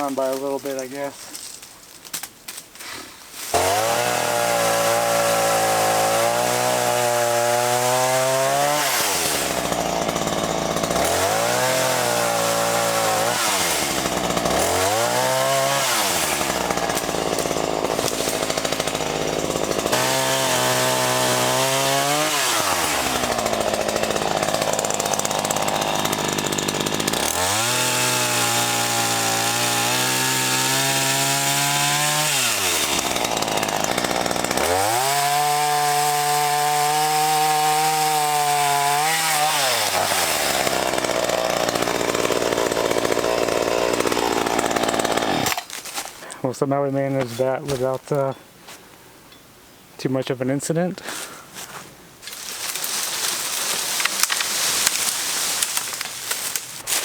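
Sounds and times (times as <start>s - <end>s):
chainsaw revving: 3.4s - 45.8s, 52.3s - 57.0s.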